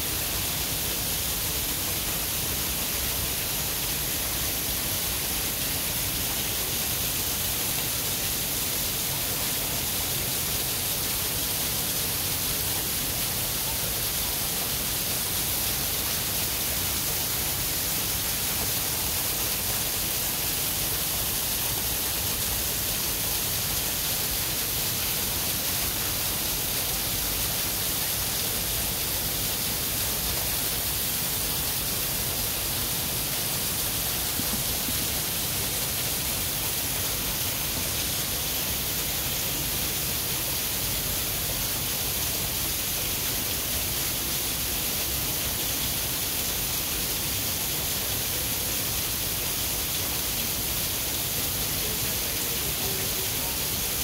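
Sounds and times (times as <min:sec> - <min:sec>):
waterfall rushing onto rocks: 0:00.0 - 0:54.0.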